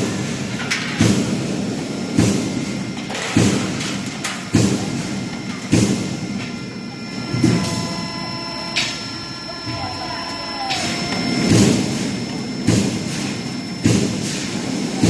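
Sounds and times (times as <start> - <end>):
continuous hum of machinery: 0.0 - 15.0.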